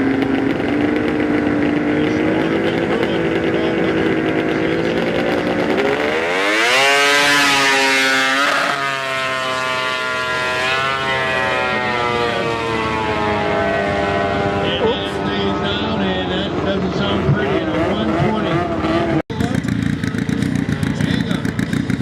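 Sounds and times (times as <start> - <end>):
snowmobile engine at full throttle: 0.0 - 22.0.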